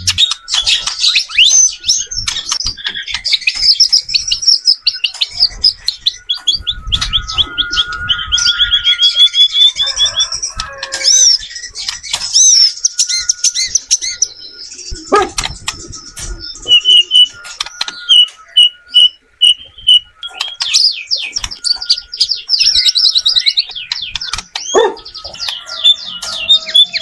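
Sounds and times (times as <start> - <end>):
bird singing chirps and trills: 0.0 - 27.0.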